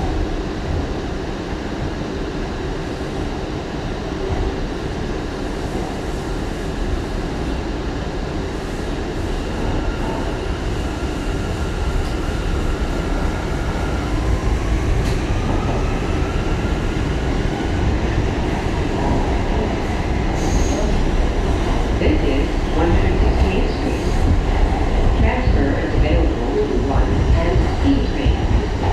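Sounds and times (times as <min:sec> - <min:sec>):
subway train wheels rumbling: 0:00.0 - 0:28.9.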